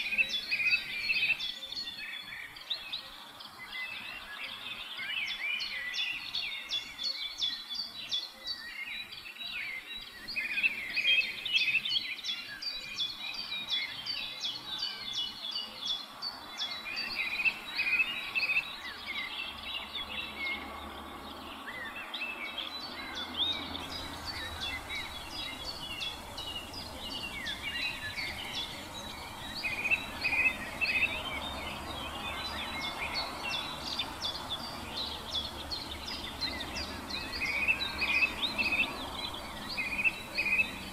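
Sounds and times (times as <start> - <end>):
chorus of small birds chirping: 0.0 - 40.9.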